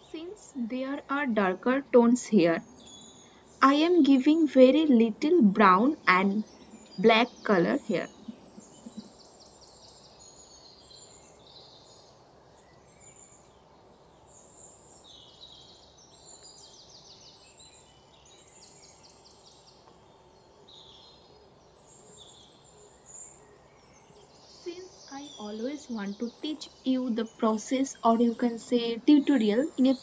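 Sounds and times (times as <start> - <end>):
small birds chirping and trilling: 0.0 - 30.0
steady low hiss: 0.0 - 30.0.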